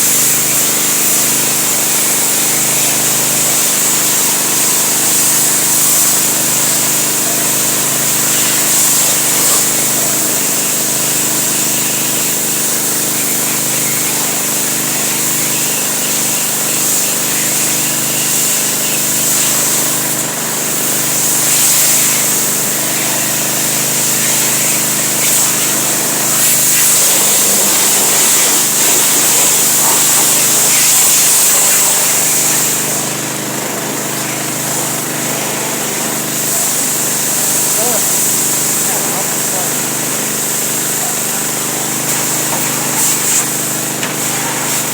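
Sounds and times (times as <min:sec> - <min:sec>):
motor-driven machine running: 0:00.0 - 0:44.9.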